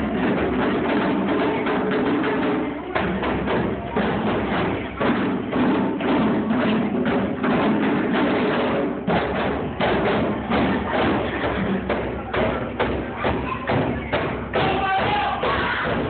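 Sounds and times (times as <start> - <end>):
hand drums playing fast rhythm: 0.0 - 16.0.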